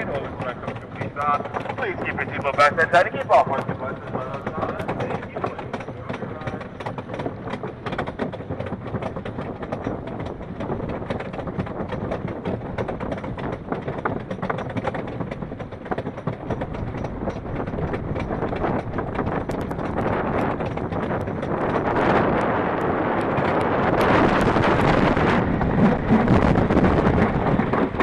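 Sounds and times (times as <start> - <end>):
lift chain rattling: 0.0 - 28.0
roller coaster clacking on lift: 0.0 - 28.0
wind noise: 0.0 - 28.0.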